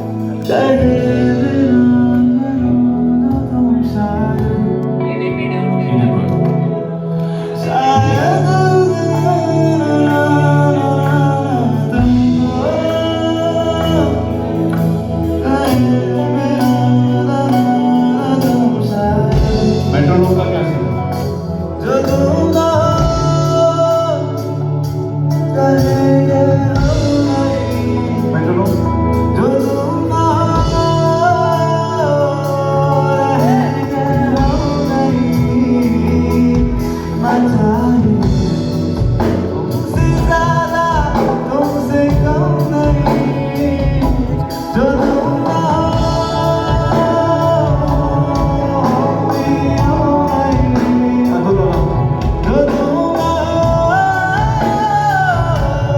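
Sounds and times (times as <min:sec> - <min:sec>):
song with singing voice and beat: 0:00.0 - 0:55.9.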